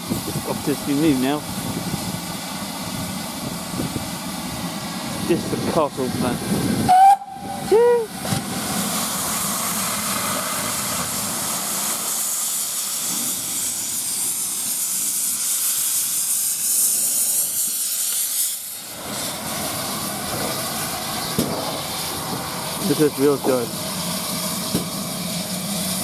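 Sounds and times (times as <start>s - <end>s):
steam hissing: 0.0s - 26.0s.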